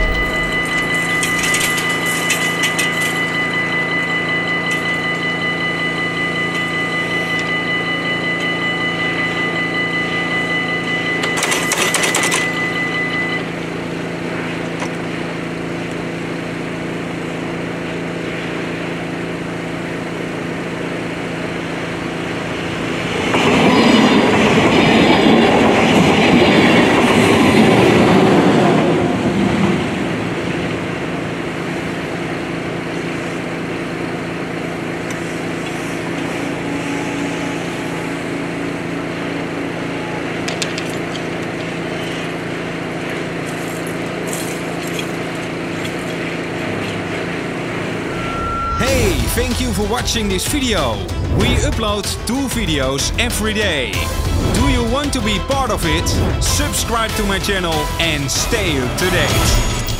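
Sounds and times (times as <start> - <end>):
passenger train rushing past: 0.0 - 44.1, 45.2 - 59.9
level crossing warning bells: 0.0 - 59.9.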